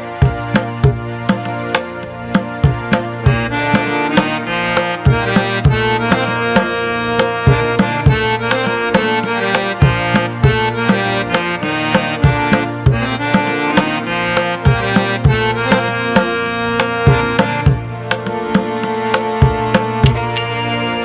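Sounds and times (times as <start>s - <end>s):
sustained melody: 0.0s - 21.0s
tabla drumming: 0.0s - 21.0s.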